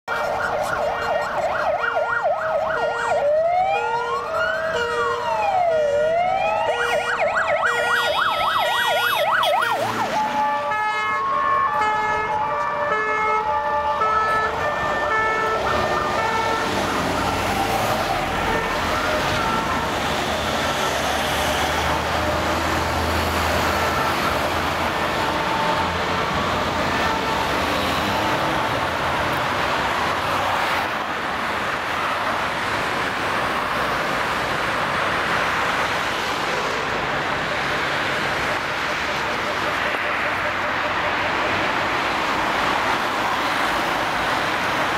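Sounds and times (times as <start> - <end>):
ambulance siren: 0.0 - 44.9
road traffic noise: 0.0 - 44.9.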